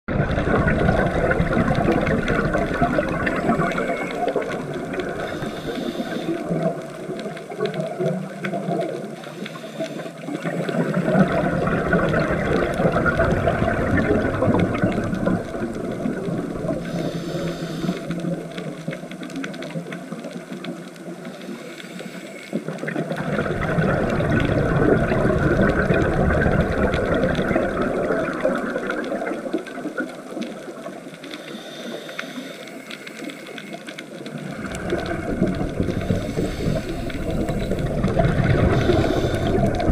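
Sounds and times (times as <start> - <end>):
underwater regulator bubbles: 0.1 - 39.9.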